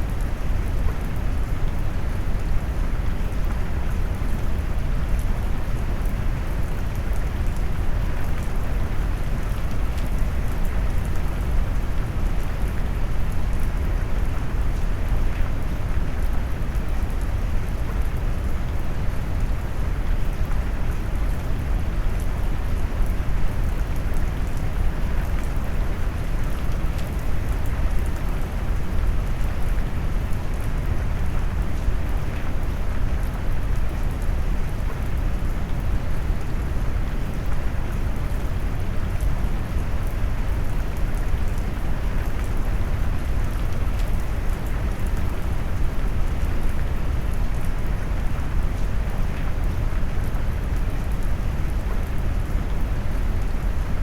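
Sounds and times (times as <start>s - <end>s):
faint raindrop patter: 0.0s - 54.0s.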